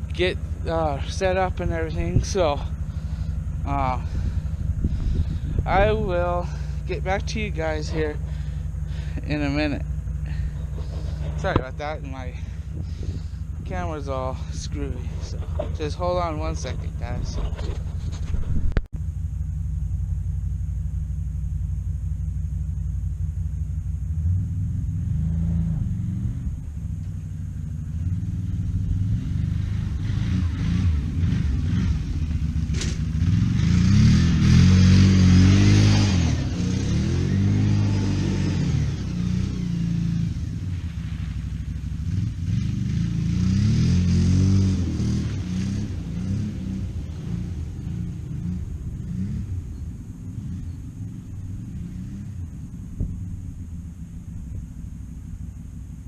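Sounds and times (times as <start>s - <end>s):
vehicle engine idling and revving: 0.0s - 56.0s.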